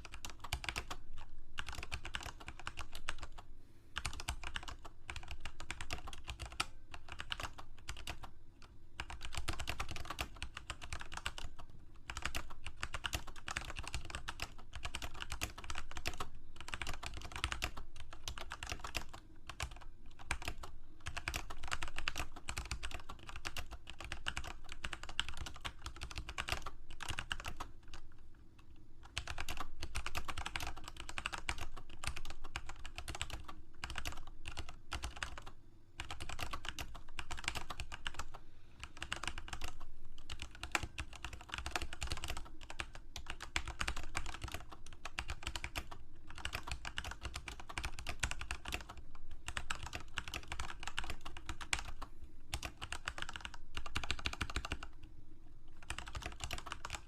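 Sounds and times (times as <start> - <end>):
typing on computer keyboard: 0.0 - 3.4, 4.0 - 55.0, 55.7 - 57.0.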